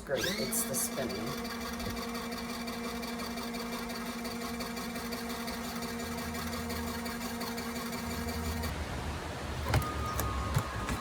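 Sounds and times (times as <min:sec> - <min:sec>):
washing machine motor humming: 0:00.0 - 0:11.0.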